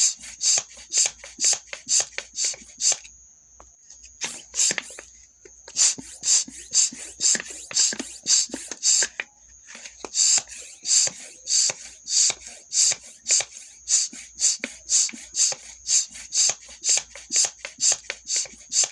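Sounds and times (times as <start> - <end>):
bicycle pump hissing puffs: 0.0 - 3.1, 4.1 - 18.9.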